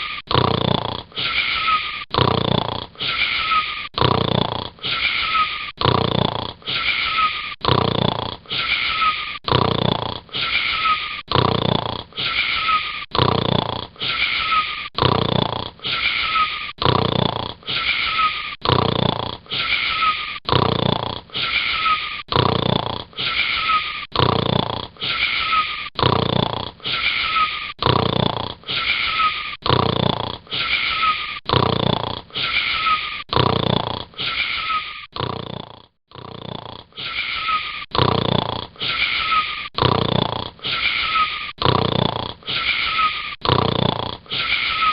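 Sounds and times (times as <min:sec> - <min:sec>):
wheezy snoring with whistle: 0:00.0 - 0:44.9.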